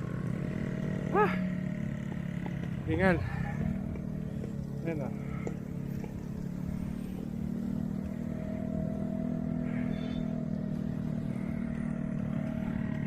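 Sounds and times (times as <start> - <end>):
vehicle engine low hum: 0.0 - 13.0.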